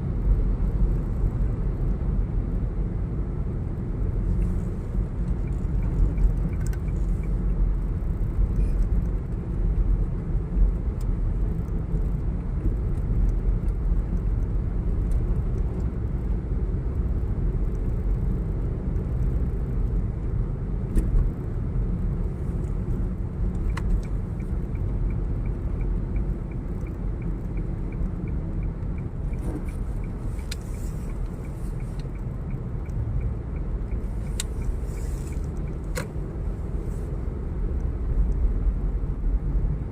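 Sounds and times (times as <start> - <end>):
vehicle rumble from inside cabin: 0.0 - 39.9.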